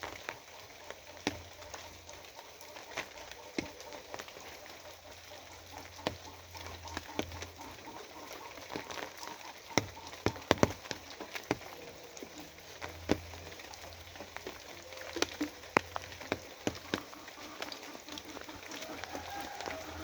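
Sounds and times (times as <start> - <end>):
rain drops tapping: 0.0 - 20.0
sharp drips: 0.0 - 20.0.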